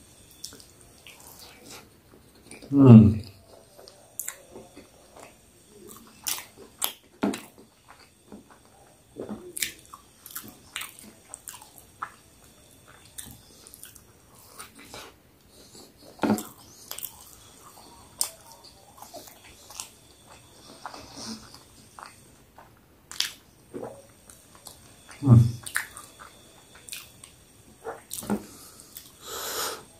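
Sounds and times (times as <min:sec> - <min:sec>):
man chewing with wet smacks: 0:00.2 - 0:29.2.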